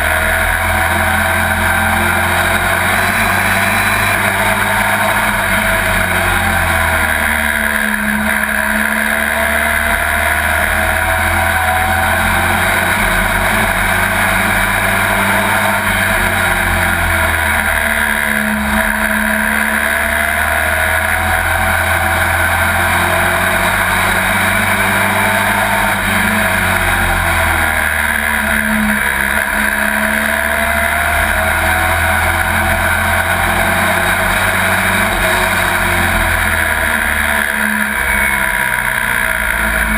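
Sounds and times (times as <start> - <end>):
race truck engine: 0.0 - 39.9.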